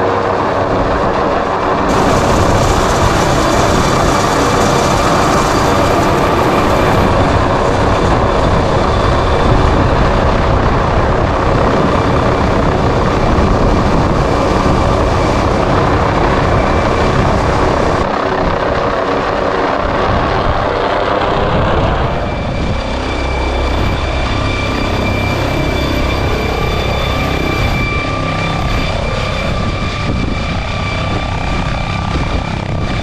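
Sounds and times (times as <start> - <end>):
helicopter rotor and turbine: 0.0 - 33.0.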